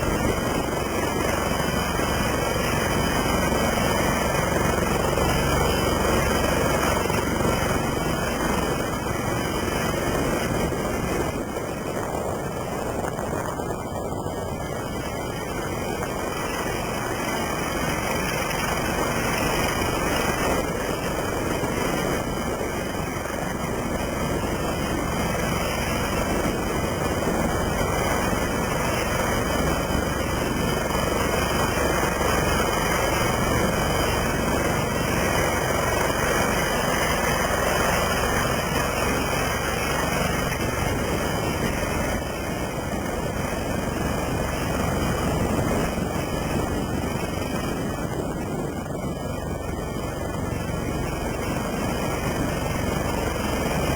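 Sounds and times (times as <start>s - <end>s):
helicopter rotor and turbine noise: 0.0s - 53.9s.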